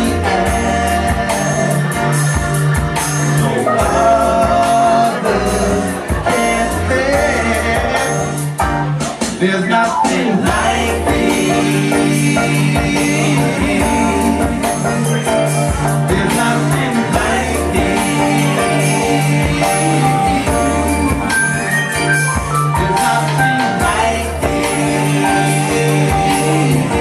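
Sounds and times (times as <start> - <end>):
repeating bass line: 0.0 - 9.0, 10.1 - 27.0
live band playing: 0.0 - 27.0.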